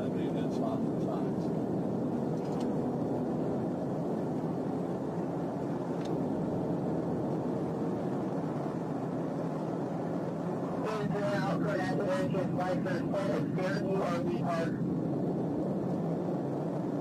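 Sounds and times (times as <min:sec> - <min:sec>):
car interior road and engine noise: 0:00.0 - 0:17.0.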